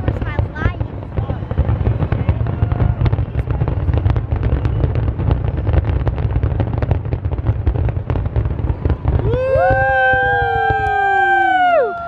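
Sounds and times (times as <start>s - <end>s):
fireworks bangs and crackles: 0.0s - 12.0s
low rumble of bursts: 0.0s - 12.0s.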